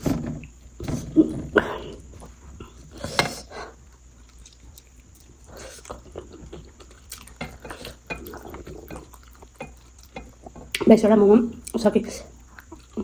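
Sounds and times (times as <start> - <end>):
person chewing food: 0.4 - 10.9, 11.6 - 13.0.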